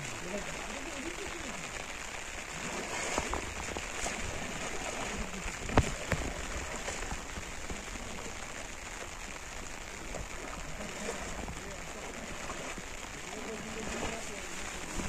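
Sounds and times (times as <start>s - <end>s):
water pattering: 0.0s - 15.0s.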